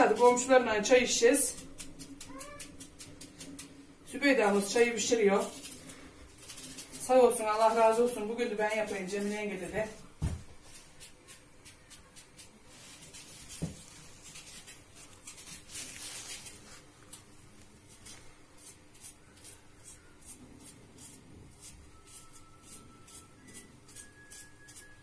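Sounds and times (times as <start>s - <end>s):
knife slicing onion: 0.0s - 17.3s, 17.9s - 25.0s.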